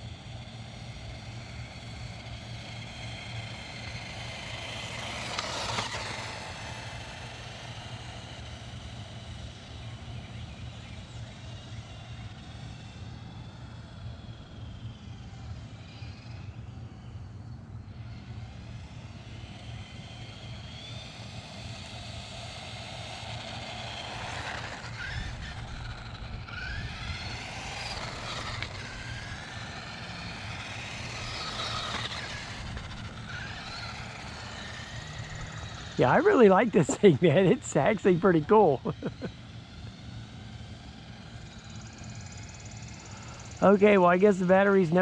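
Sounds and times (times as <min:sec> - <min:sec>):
steady low hum: 0:00.0 - 0:45.0
toy truck motor whining: 0:00.3 - 0:10.5, 0:18.0 - 0:45.0.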